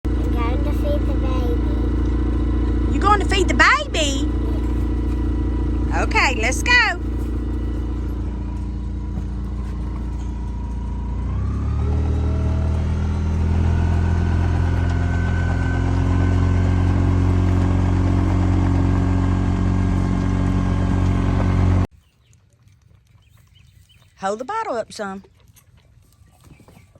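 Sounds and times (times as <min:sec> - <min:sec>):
vehicle engine revving up: 0:00.1 - 0:21.9.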